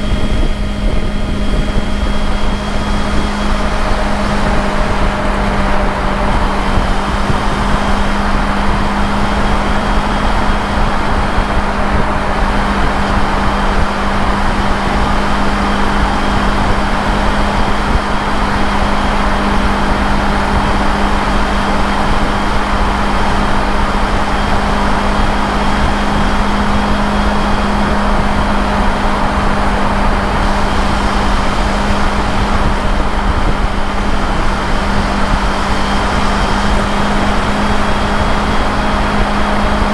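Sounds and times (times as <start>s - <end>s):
motorcycle engine humming: 0.0s - 39.9s
wind and road noise: 0.0s - 39.9s.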